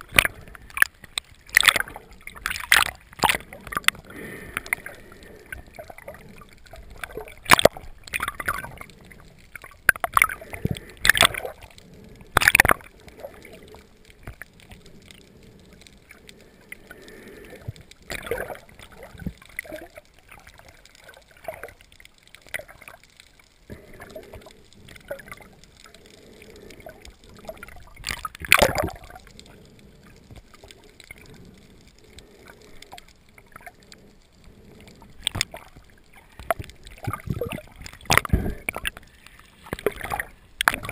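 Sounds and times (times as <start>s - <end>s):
muffled underwater rush: 0.0s - 40.9s.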